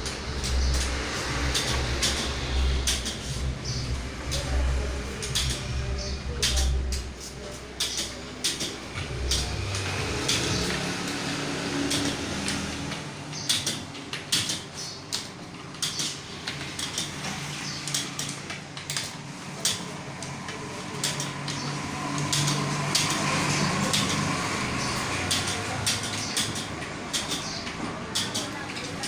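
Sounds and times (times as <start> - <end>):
computer keyboard typing: 0.0 - 29.0.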